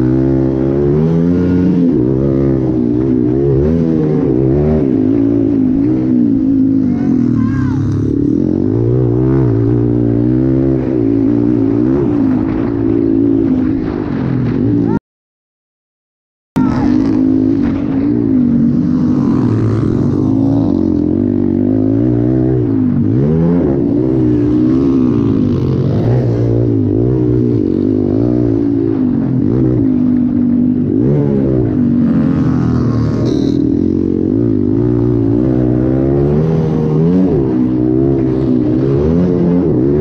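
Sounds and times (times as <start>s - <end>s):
motocross bike engine revving: 0.0s - 15.0s, 16.6s - 40.0s.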